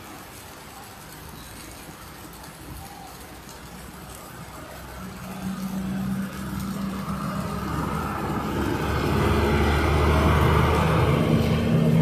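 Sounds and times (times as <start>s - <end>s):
hiss of water: 0.0s - 12.0s
vehicle engine hum: 0.0s - 12.0s.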